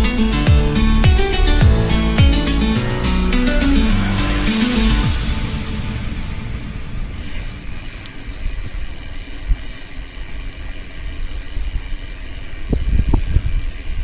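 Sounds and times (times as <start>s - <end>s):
bicycle road and wind noise: 0.0s - 14.0s.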